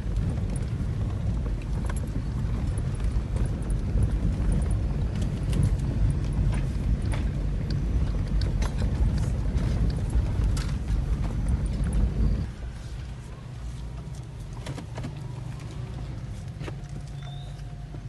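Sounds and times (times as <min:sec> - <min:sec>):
car rumbling over rocky track: 0:00.0 - 0:18.0.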